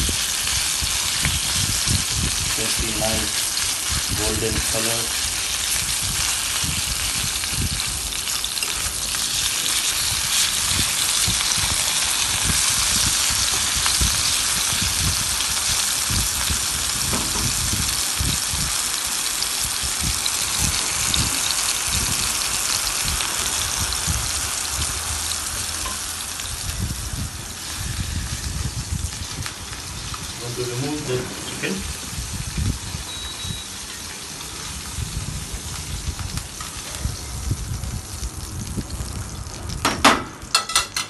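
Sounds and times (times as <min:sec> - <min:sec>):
chicken sizzling in hot oil: 0:00.0 - 0:41.0.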